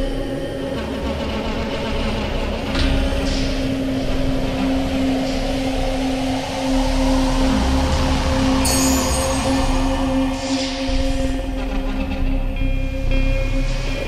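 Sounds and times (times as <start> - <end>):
deep rumble: 0.0 - 14.0
low drone: 0.0 - 14.0.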